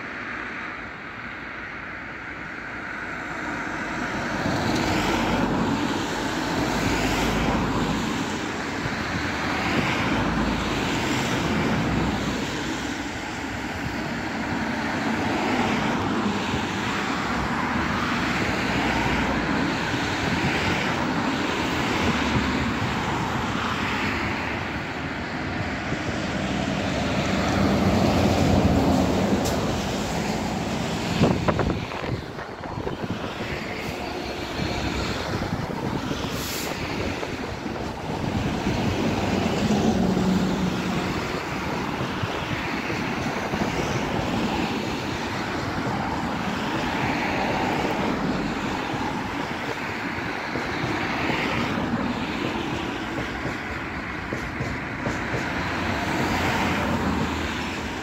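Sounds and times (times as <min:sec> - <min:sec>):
diesel locomotive rumbling drone: 0:00.0 - 0:58.0.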